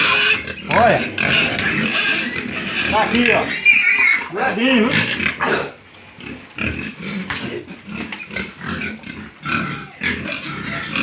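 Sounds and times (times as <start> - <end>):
pigs grunting: 0.0 - 11.0.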